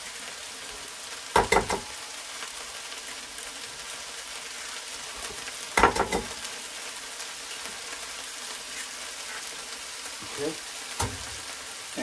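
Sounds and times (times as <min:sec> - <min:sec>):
mushrooms sizzling in a pan: 0:00.0 - 0:12.0.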